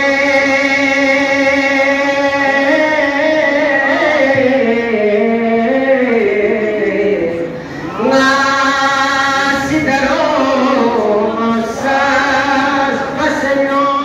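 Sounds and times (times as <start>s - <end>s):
man chanting into a microphone: 0.0s - 7.4s, 8.0s - 14.0s.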